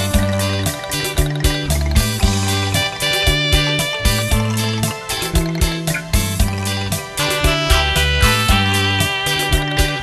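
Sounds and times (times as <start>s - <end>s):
instrumental backing track: 0.0s - 10.0s.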